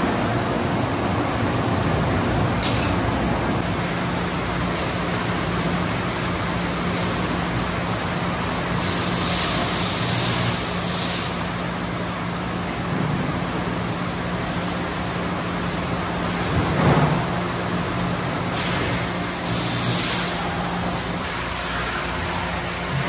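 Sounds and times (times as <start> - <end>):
bottle washer machine hum: 0.0 - 23.0.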